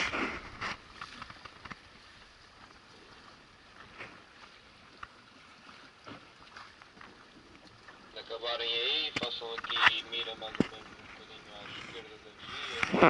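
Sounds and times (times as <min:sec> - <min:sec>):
faint wind: 0:00.0 - 0:13.0
water washing against hull: 0:00.0 - 0:13.0.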